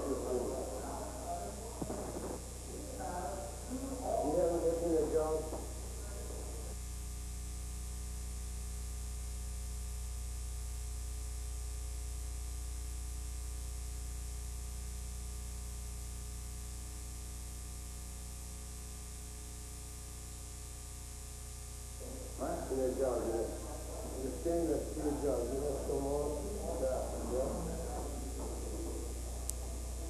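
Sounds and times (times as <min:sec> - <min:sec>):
constant hiss: 0:00.0 - 0:30.0
electrical mains hum: 0:00.0 - 0:30.0.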